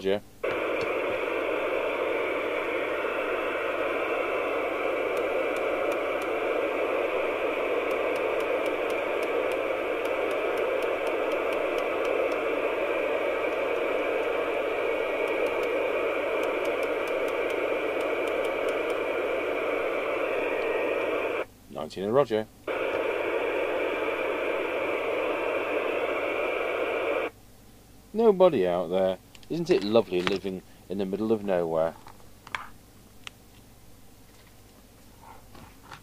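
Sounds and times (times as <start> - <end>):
radio static hiss: 0.0 - 27.4, 28.2 - 32.0.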